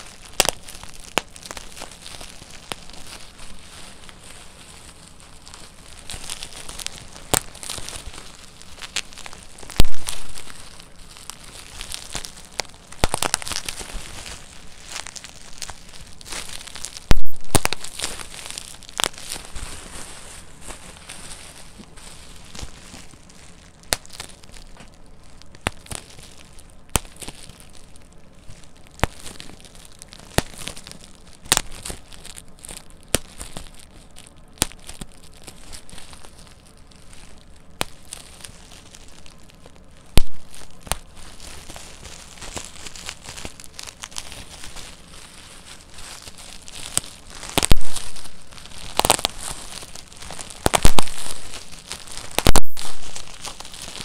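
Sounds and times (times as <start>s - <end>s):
bubble wrap popping: 0.0s - 54.0s
plastic sheet crinkling: 0.0s - 54.0s.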